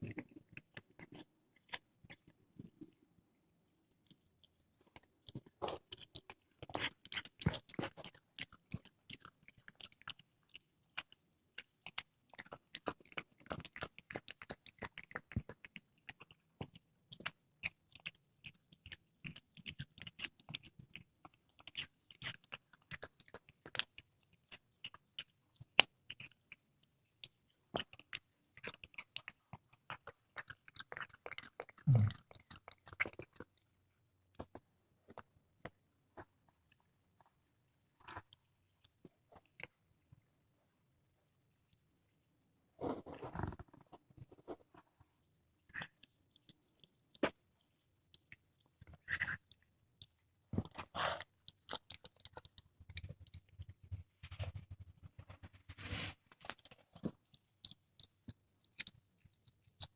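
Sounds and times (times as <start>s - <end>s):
cat chewing and crunching bones: 0.0s - 59.9s.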